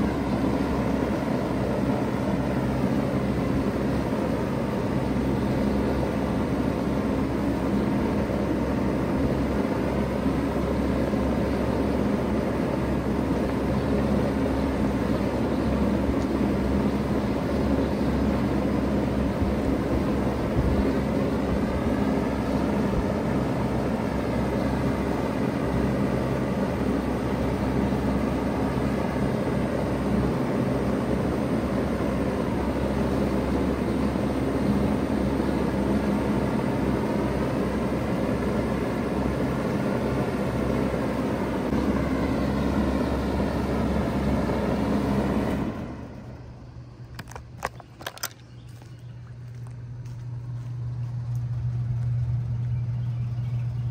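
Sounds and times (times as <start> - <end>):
condenser fan rushing: 0.0 - 53.9
heat pump compressor humming: 0.0 - 53.9.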